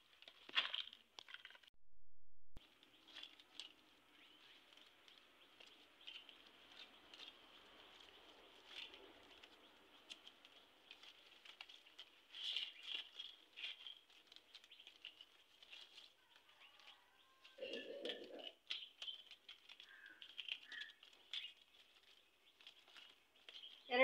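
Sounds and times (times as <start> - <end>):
dry palm leaves crackling: 0.0 - 1.7, 2.6 - 24.0.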